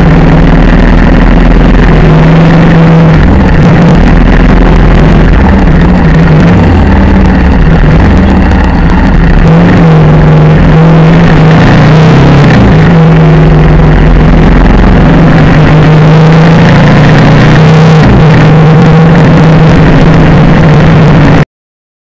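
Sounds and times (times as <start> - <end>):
road and wind noise: 0.0 - 21.4
vehicle engine hum: 0.0 - 21.4.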